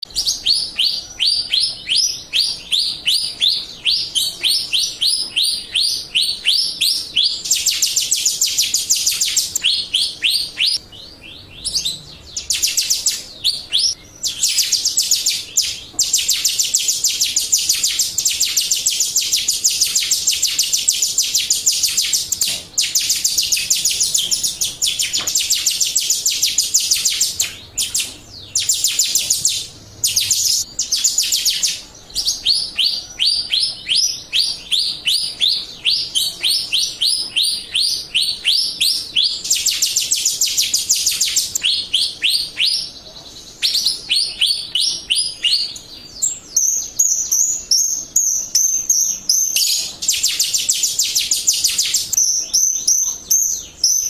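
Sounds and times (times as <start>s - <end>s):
starling whistles and trills: 0.0s - 54.0s.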